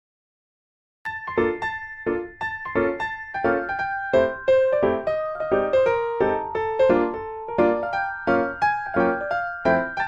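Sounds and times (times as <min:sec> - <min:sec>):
piano background music: 0:01.1 - 0:10.0.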